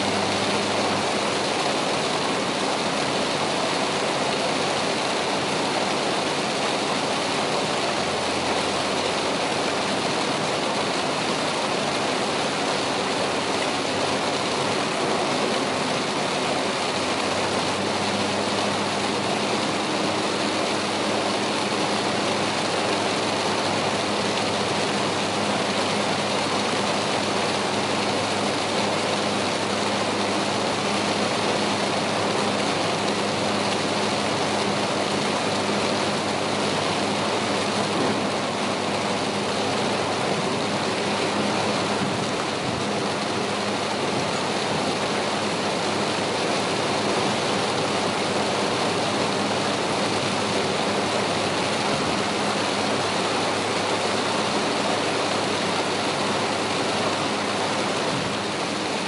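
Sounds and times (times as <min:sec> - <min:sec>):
heavy rain on a moving car: 0:00.0 - 0:59.0
low engine and road hum: 0:00.0 - 0:59.0
tyres on wet road: 0:00.0 - 0:59.0.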